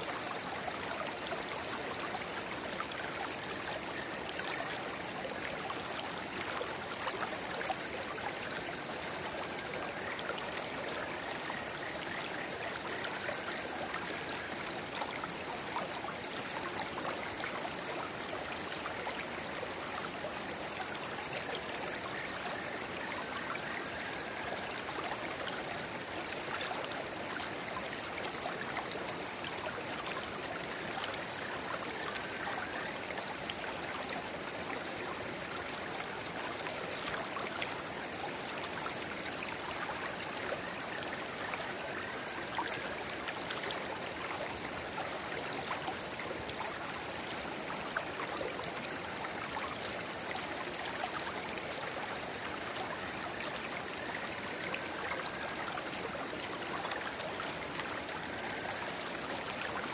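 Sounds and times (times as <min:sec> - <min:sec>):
river babbling: 0:00.0 - 0:59.9
stream trickling and splashing: 0:00.0 - 0:59.9.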